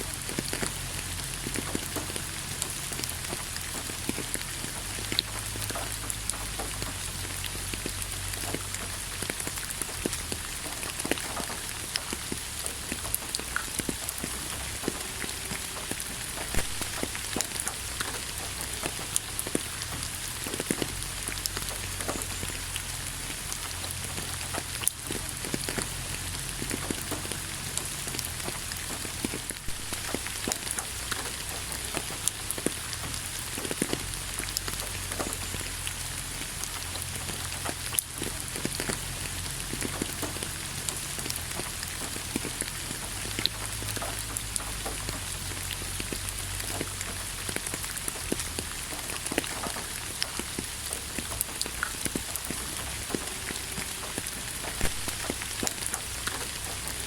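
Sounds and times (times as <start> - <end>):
rain hissing: 0.0 - 57.0
raindrops striking close by: 0.0 - 57.0.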